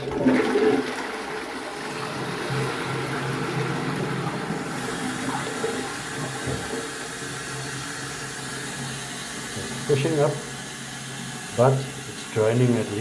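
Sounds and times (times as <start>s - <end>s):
toilet flushing: 0.0s - 13.0s.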